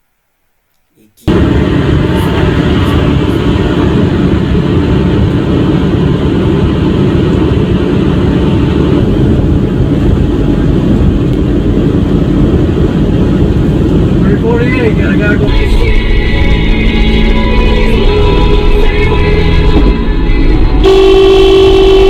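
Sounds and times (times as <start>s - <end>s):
truck engine and tyre rumble: 1.3s - 22.0s.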